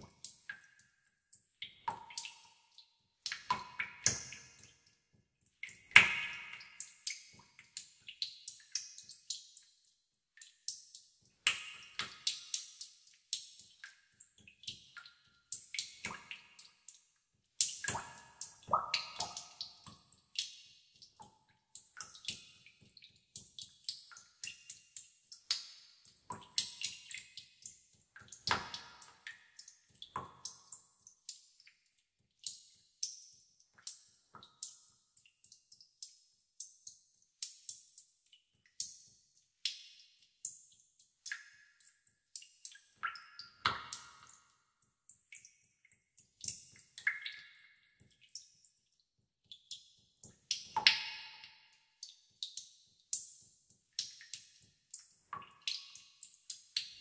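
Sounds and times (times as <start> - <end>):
water droplets dripping into pool: 0.0 - 57.0.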